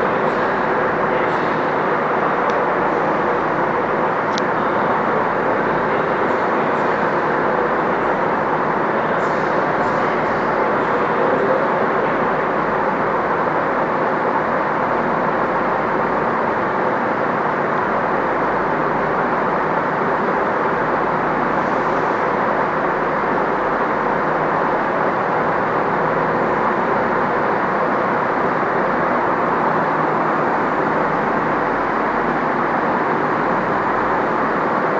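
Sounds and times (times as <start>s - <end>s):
diesel train engines idling: 0.0s - 34.9s.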